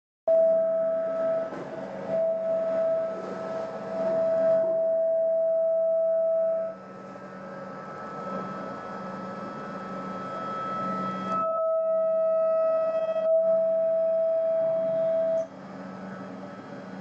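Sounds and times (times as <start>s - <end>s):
electronic drone of held tones: 0.3s - 17.0s
low hum and hiss: 0.3s - 17.0s.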